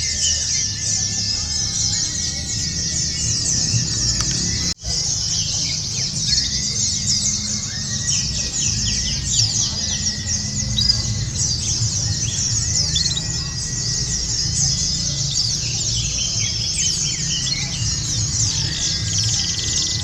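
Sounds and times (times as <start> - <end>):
chorus of birds chirping and trilling: 0.0 - 20.0
low rumbling murmur: 0.0 - 20.0.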